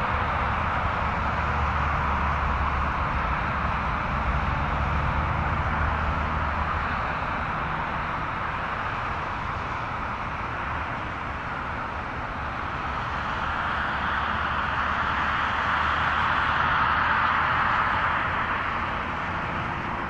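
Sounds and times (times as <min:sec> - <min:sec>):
jet engines at takeoff thrust: 0:00.0 - 0:20.0.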